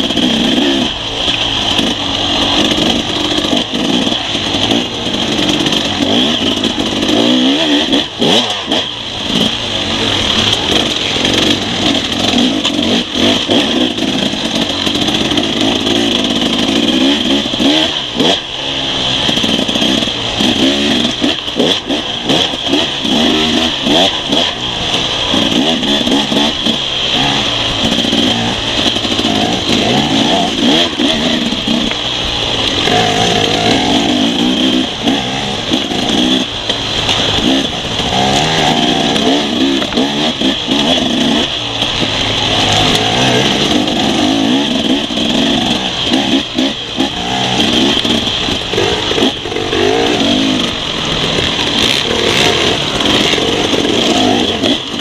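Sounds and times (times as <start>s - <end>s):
bike knocking and rattling: 0.0s - 55.0s
dirt bike engine revving: 0.0s - 55.0s.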